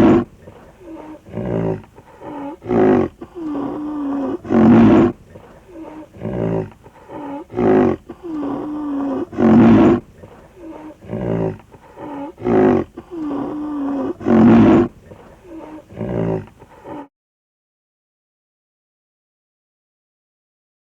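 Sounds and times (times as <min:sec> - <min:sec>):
rhinoceros grunting: 0:00.0 - 0:17.1.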